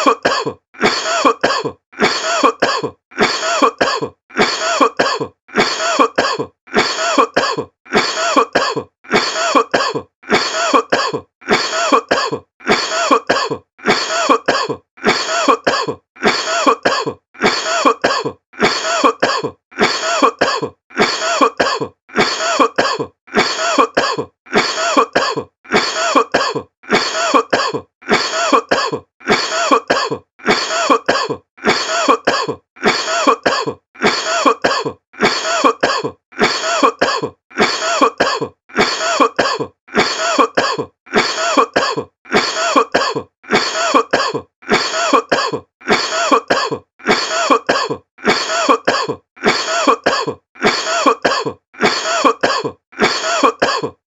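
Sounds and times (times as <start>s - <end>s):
person coughing: 0.0s - 54.0s.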